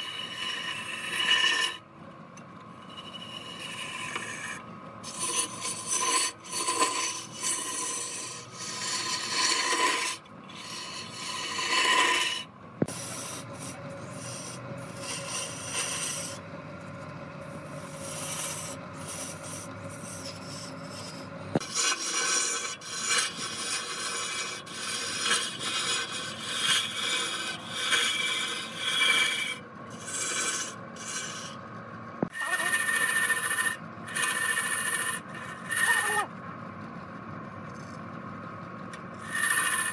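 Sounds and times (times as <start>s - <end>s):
rag sanding spinning wood: 0.0s - 1.8s, 2.8s - 16.4s, 17.4s - 31.6s, 32.3s - 36.3s, 39.2s - 39.9s
wood lathe running: 0.0s - 1.8s, 2.6s - 31.6s, 32.2s - 36.3s, 38.9s - 39.9s.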